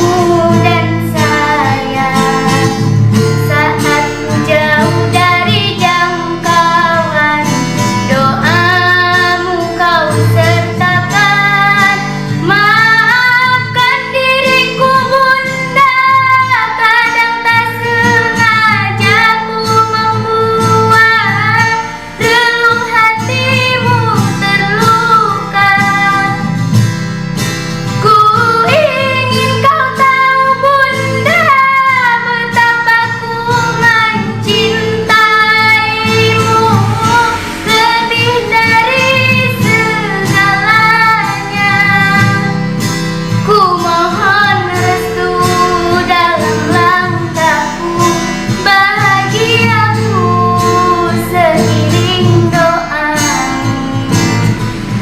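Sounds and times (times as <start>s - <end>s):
girl singing a slow ballad: 0.0s - 27.0s, 27.8s - 55.0s
karaoke backing track with guitar: 0.0s - 55.0s.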